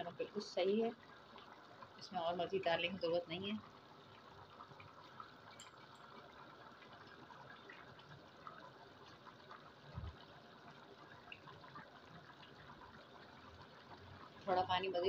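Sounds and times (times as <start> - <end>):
faint bubbling in a metal pot: 0.0 - 15.0.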